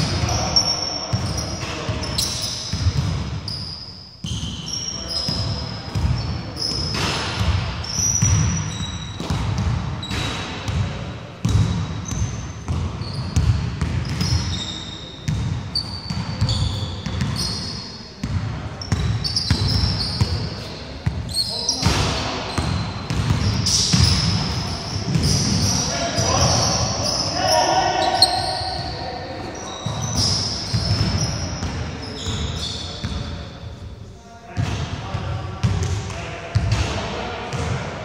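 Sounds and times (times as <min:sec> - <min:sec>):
players' voices: 0:00.0 - 0:03.6, 0:04.3 - 0:12.2, 0:14.2 - 0:38.0
sneaker squeaks: 0:00.0 - 0:10.8, 0:11.4 - 0:34.8.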